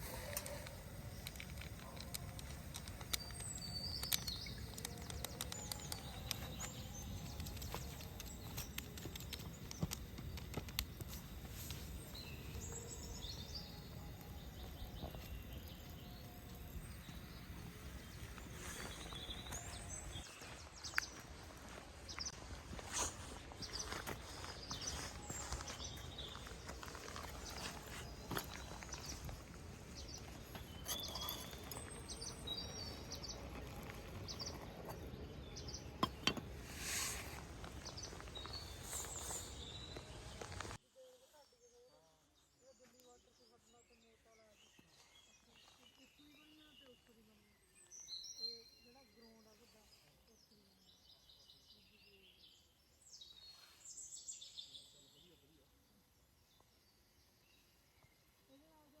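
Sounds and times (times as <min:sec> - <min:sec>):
bird chirps: 0:00.0 - 0:21.2, 0:22.2 - 0:58.9.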